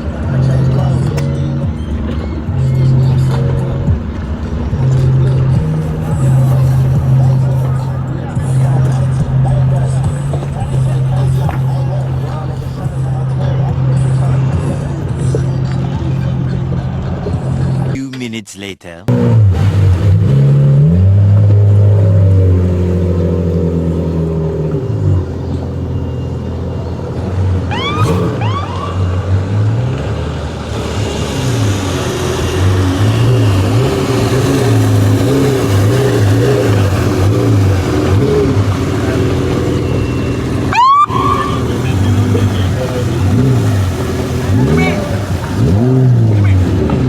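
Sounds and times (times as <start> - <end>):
boat engine running: 0.0 - 18.0, 19.1 - 47.0.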